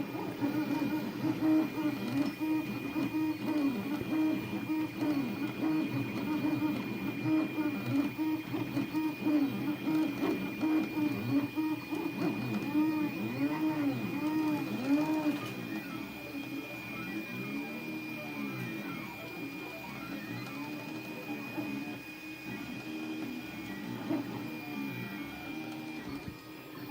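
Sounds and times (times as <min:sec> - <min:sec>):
stepper motors whining in sweeps: 0:00.0 - 0:26.9.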